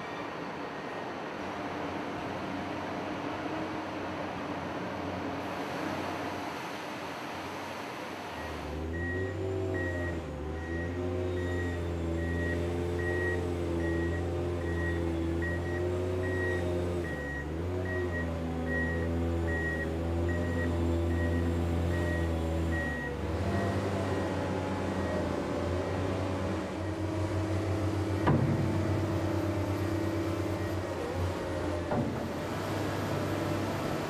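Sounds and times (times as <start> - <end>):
heavy vehicle engine under load: 1.2 - 34.0.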